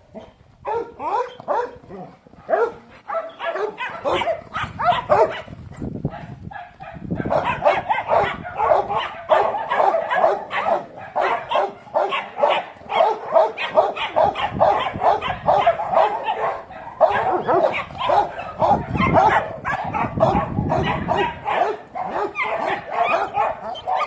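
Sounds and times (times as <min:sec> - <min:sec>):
dogs barking: 0:00.1 - 0:24.0.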